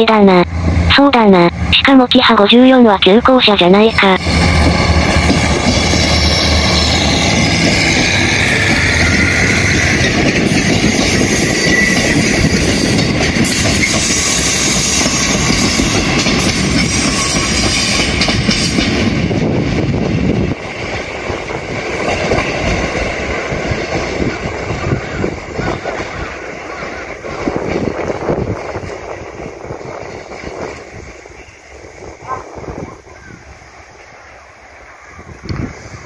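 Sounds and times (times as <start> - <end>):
diesel train rumbling past: 0.0 - 36.0.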